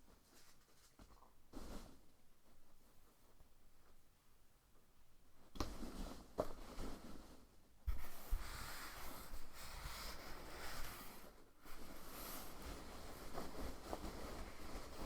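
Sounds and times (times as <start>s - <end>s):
soft scratching and rustling: 0.0s - 4.2s, 5.4s - 15.0s.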